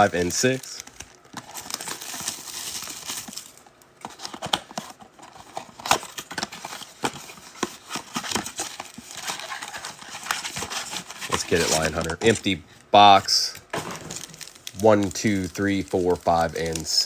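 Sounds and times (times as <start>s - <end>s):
foil card packs rustling: 0.0s - 17.0s.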